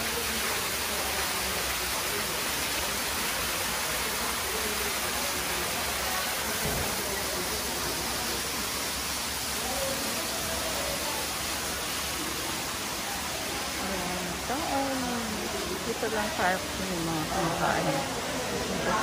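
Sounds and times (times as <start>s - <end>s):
small waterfall splashing: 0.0s - 19.0s.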